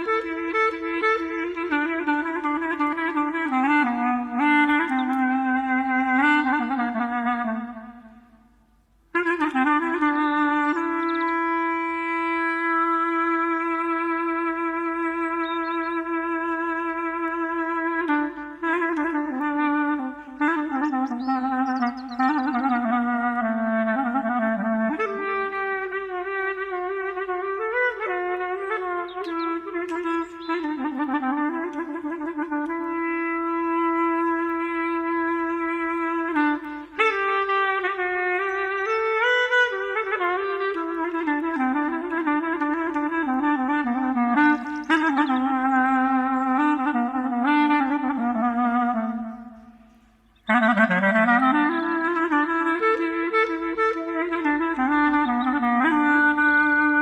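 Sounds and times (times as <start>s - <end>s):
clarinet playing: 0.0s - 57.0s.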